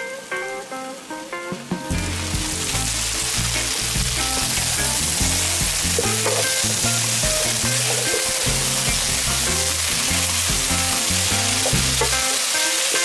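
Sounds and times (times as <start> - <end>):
background music: 0.0 - 13.0
potatoes sizzling in skillet: 0.2 - 13.0.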